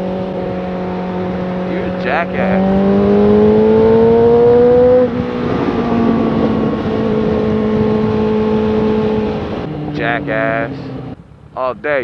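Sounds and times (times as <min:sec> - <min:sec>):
wind rush on microphone: 0:00.0 - 0:11.2
motorcycle engine at speed: 0:00.0 - 0:11.6.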